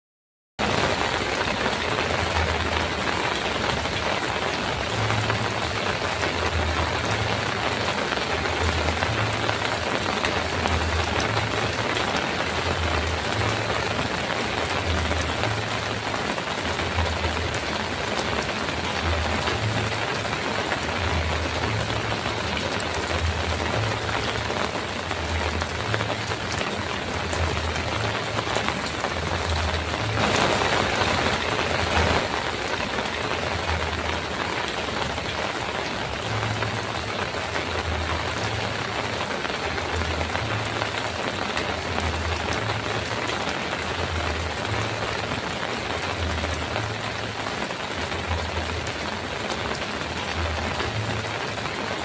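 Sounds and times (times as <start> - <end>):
heavy rain on a metal roof: 0.6 - 52.0.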